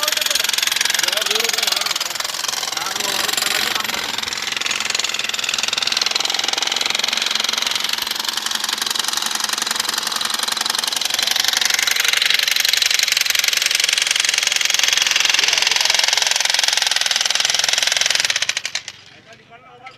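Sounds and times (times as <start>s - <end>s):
power tool rattling: 0.0s - 19.2s.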